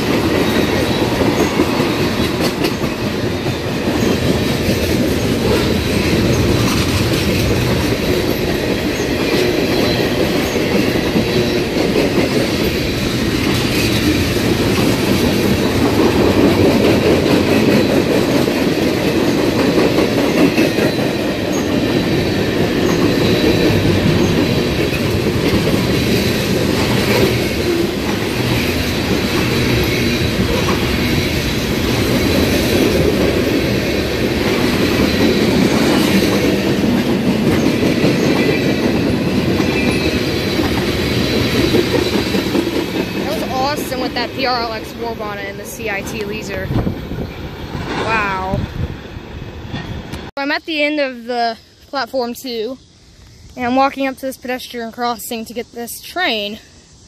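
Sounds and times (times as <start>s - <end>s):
wheels clicking over rail joints: 0.0s - 48.0s
train wheels rumbling on rails: 0.0s - 56.8s.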